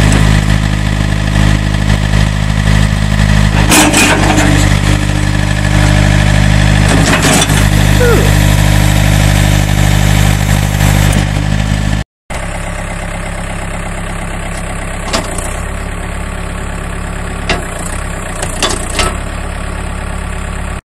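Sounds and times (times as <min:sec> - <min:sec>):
diesel engine running: 0:00.0 - 0:20.8.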